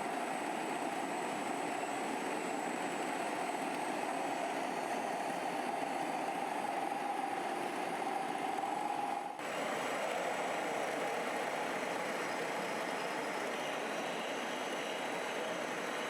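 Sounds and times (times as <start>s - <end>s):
model truck motors running: 0.0s - 16.0s.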